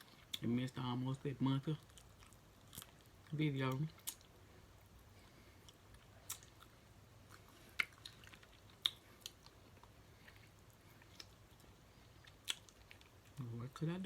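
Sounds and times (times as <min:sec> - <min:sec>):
quiet chewing: 0:01.7 - 0:13.5.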